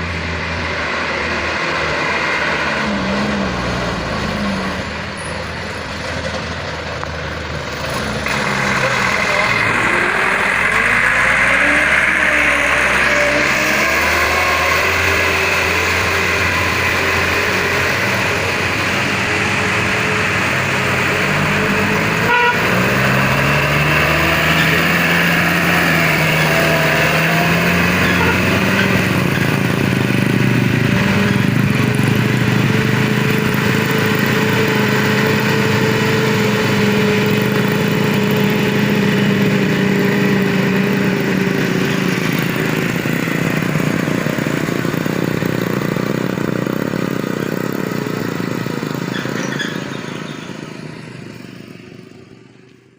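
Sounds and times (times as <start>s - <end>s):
traffic passing: 0.0s - 52.9s
truck engines labouring uphill: 0.0s - 52.9s.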